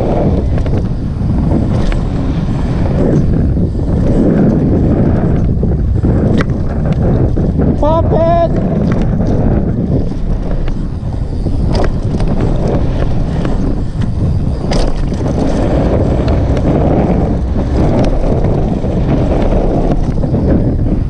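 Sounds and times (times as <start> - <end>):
bike knocks and rattles: 0.0 - 21.0
wind rushing over microphone: 0.0 - 21.0.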